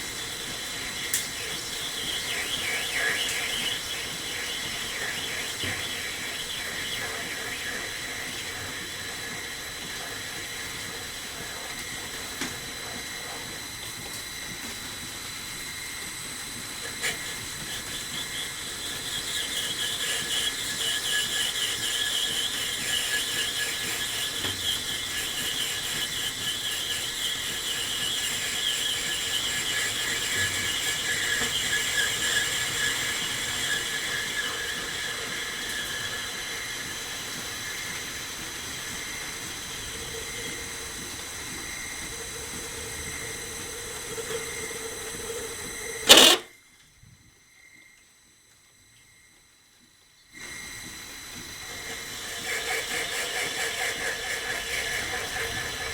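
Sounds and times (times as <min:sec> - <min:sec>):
lathe tool scraping squeal: 0:00.0 - 0:14.4, 0:16.8 - 0:46.5, 0:51.6 - 0:55.9
machine high whine: 0:00.0 - 0:55.9.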